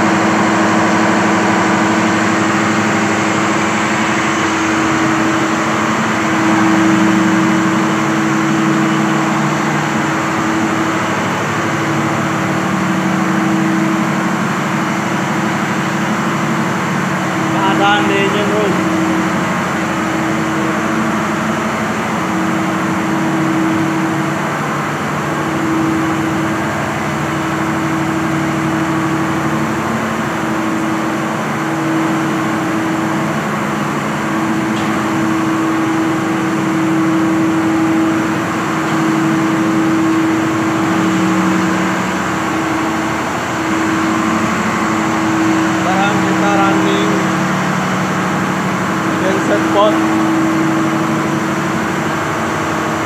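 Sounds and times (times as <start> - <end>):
diesel engine droning: 0.0 - 53.0.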